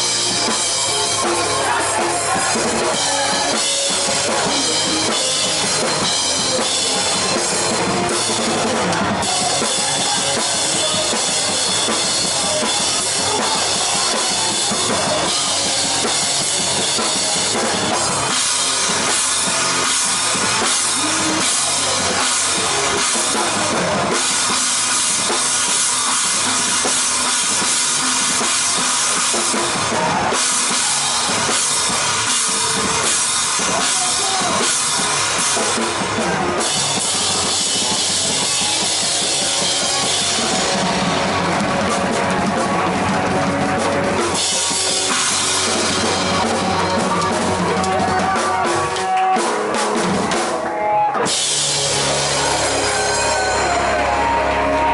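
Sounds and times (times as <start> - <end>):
rock band playing: 0.0 - 54.9.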